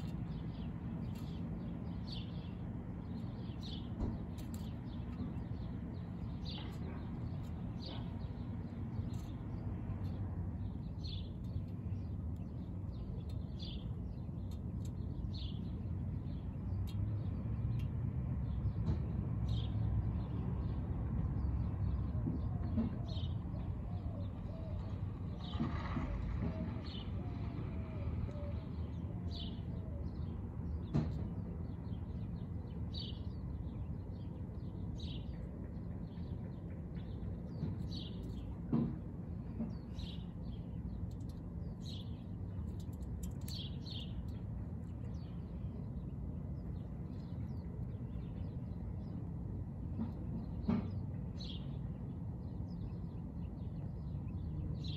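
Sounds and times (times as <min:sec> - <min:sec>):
low background rumble: 0:00.0 - 0:54.9.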